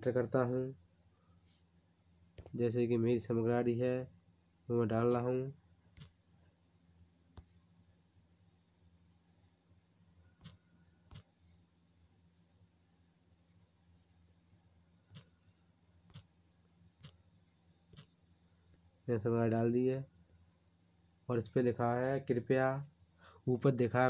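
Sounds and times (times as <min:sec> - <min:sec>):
faint high-pitched chirping trill: 0:00.0 - 0:24.0.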